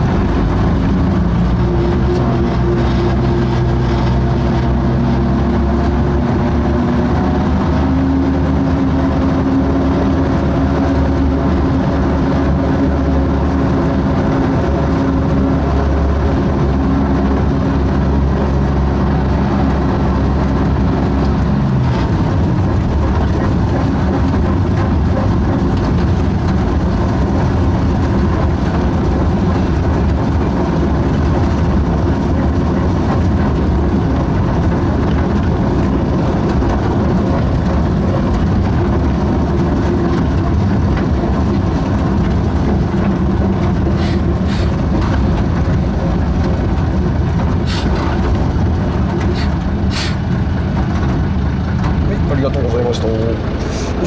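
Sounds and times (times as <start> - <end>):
locomotive diesel engine running: 0.0 - 54.0
wheels rolling on rails: 0.0 - 54.0.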